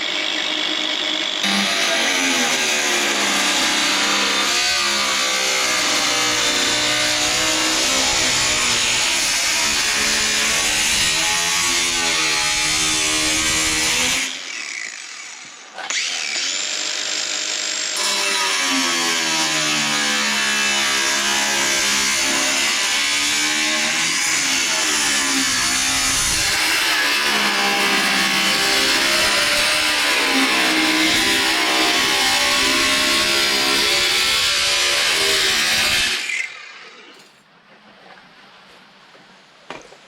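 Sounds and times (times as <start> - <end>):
power tool cutting sheet metal: 0.0 - 37.4.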